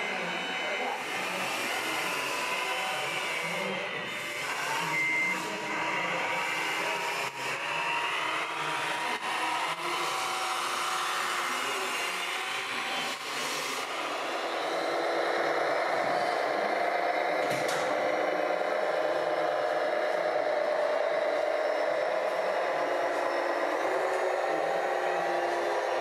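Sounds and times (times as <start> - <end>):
electric motors whining: 0.0 - 26.0.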